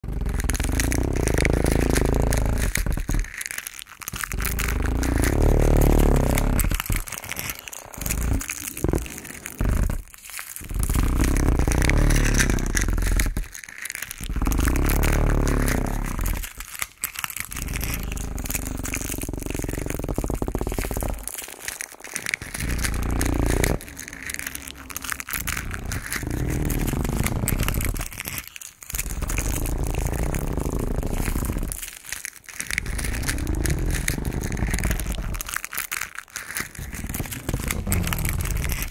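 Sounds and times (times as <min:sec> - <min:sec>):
close crunching and crumpling: 0:00.0 - 0:38.9.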